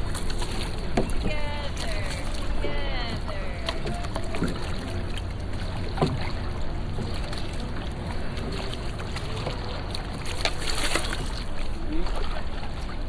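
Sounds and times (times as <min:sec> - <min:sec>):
water splashing from paddling: 0:00.0 - 0:13.0.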